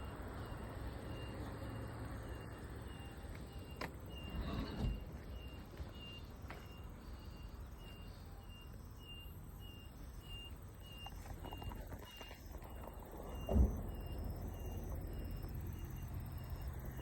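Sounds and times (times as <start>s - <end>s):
electronic alarm beeping: 0.0s - 17.0s
vehicle traffic rumble: 0.0s - 17.0s.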